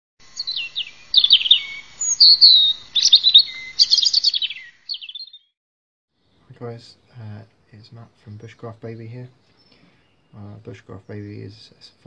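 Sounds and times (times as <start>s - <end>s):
songbird singing: 0.2s - 5.6s, 6.2s - 12.0s.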